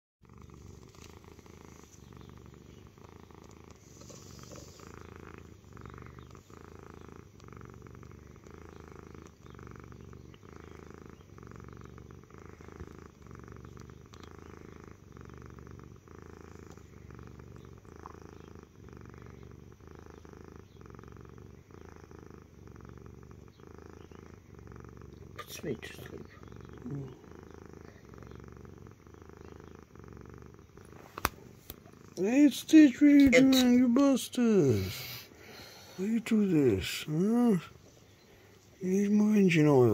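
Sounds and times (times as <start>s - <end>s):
cat purring: 0.2s - 39.9s.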